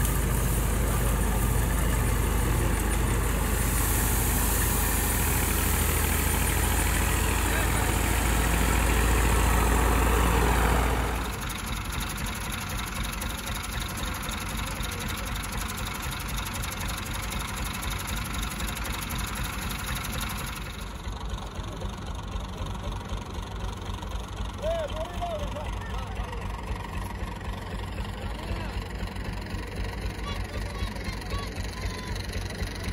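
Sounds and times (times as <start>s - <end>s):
tractor engine running thresher: 0.0s - 32.9s.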